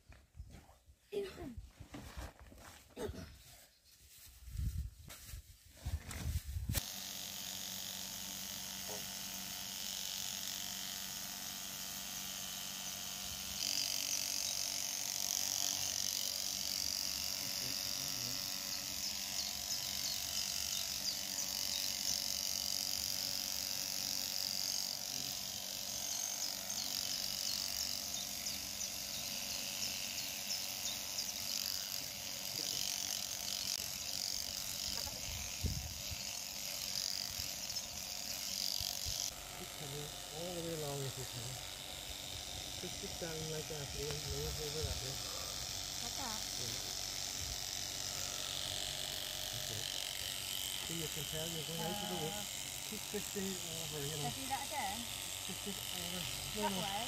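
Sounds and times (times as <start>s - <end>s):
electric shears buzzing through fleece: 6.1s - 57.0s.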